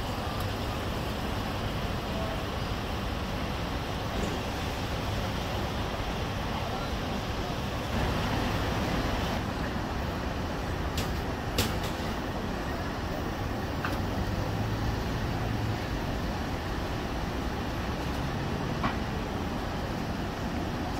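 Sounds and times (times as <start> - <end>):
road and tyre noise inside car: 0.0 - 20.9.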